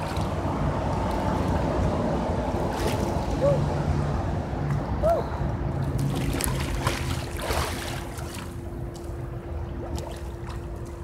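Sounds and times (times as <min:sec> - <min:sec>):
pool water splashing: 0:00.0 - 0:03.8, 0:05.8 - 0:11.0
low hum: 0:00.0 - 0:11.0.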